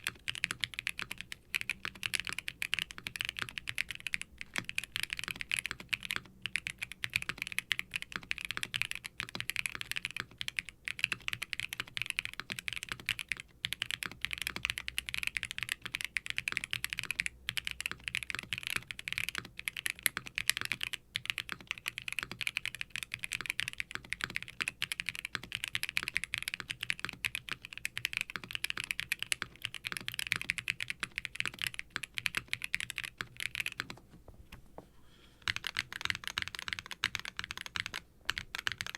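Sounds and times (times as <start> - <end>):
fast mechanical keyboard typing: 0.0 - 34.0, 35.4 - 38.9.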